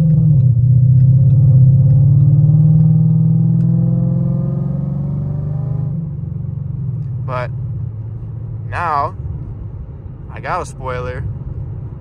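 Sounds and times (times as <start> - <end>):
car engine while driving: 0.0 - 12.0.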